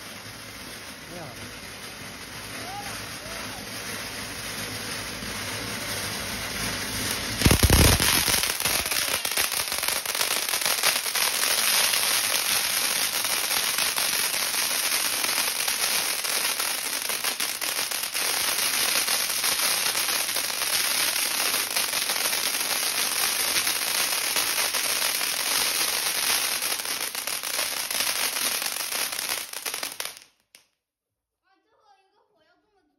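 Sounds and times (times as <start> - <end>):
firework fountain crackling: 0.0 - 30.6.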